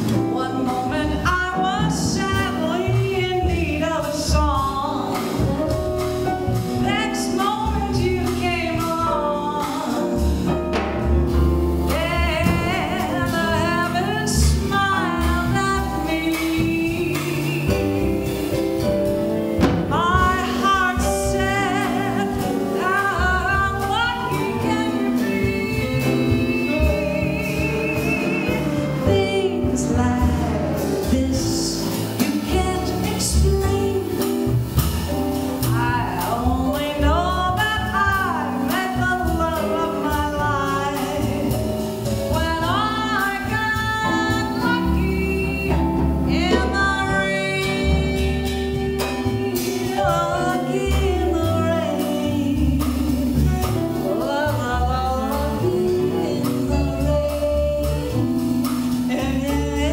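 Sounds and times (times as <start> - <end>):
small jazz band playing: 0.0 - 59.9
woman singing swing jazz: 0.0 - 59.9.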